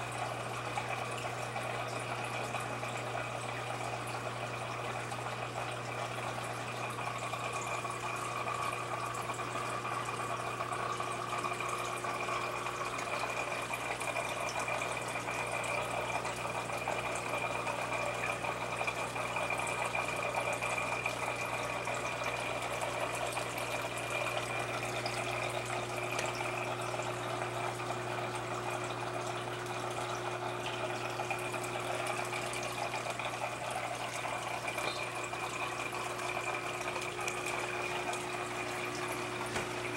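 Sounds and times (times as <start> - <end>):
aquarium pump hum: 0.0 - 39.9
water trickling and splashing: 0.0 - 39.9.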